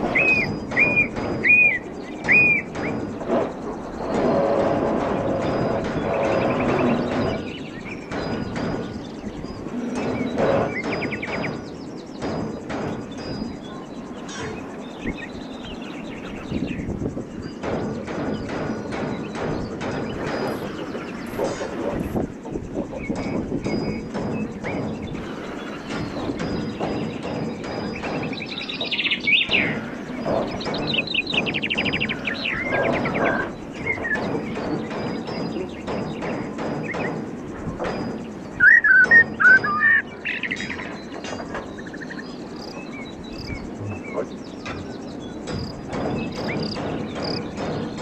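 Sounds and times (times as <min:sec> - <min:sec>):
birds chirping and trilling: 0:00.0 - 0:48.0.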